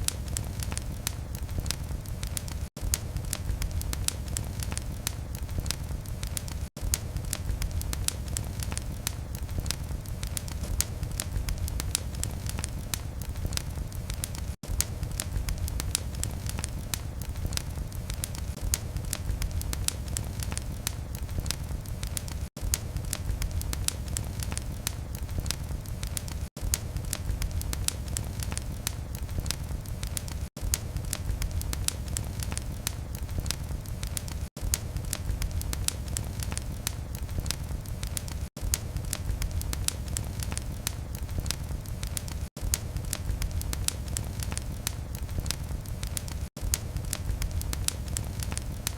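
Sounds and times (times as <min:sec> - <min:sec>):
fire rumbling in a fireplace: 0:00.0 - 0:48.9
wood crackling and popping: 0:00.0 - 0:48.9.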